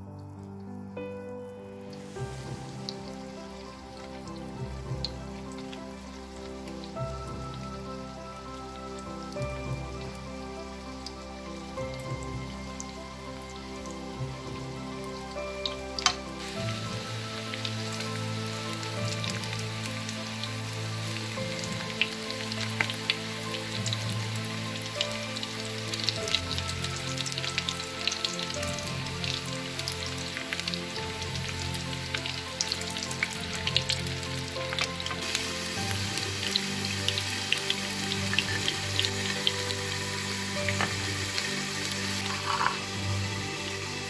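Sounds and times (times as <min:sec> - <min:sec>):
background music: 0:00.0 - 0:44.0
hot oil sizzling and popping: 0:00.0 - 0:44.0.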